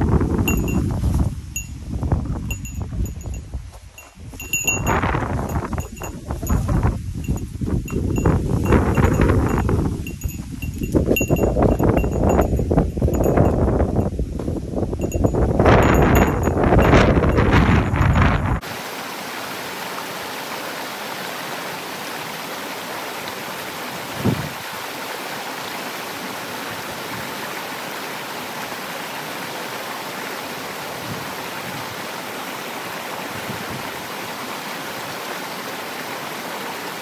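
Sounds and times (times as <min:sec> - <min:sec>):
flowing water rushing: 0:00.0 - 0:01.8, 0:02.4 - 0:14.1, 0:15.0 - 0:37.0.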